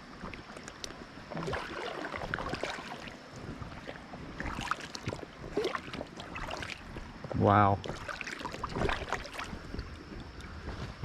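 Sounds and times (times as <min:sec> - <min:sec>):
creek water sloshing and splashing: 0:00.0 - 0:11.0.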